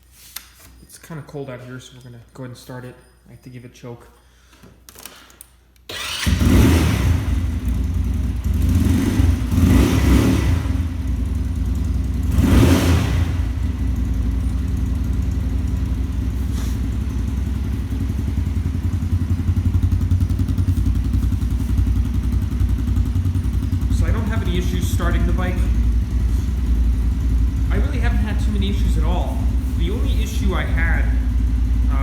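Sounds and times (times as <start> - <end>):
motorcycle engine starting and revving: 5.9 - 32.0.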